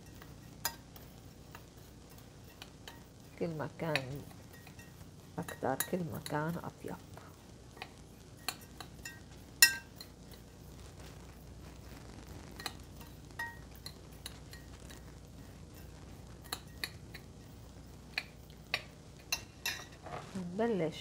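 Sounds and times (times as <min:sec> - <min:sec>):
spoon stirring crumbs in glass bowl: 0:00.0 - 0:20.2.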